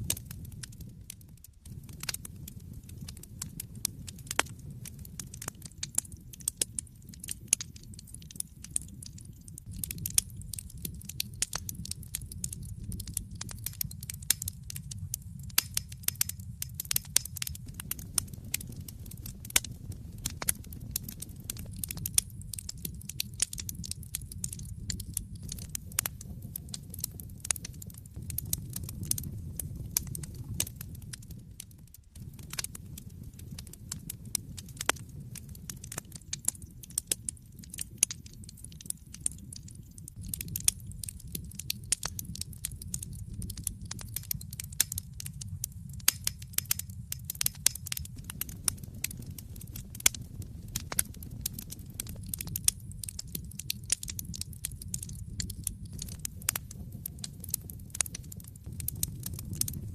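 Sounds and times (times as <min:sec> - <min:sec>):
fire crackling and popping: 0:00.0 - 0:59.9
flames rumbling: 0:00.0 - 0:59.9.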